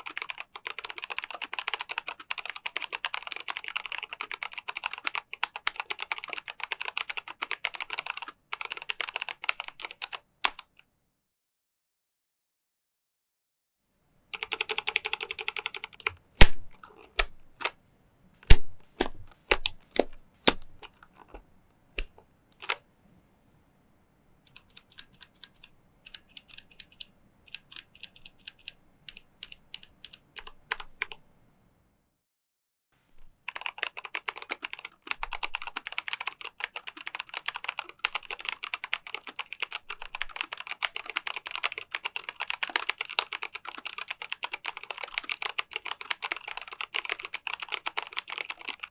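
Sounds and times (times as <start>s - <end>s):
mechanical keyboard typing: 0.0s - 10.8s, 14.3s - 17.8s, 18.5s - 21.4s, 22.0s - 22.8s, 24.4s - 31.2s, 33.5s - 48.9s.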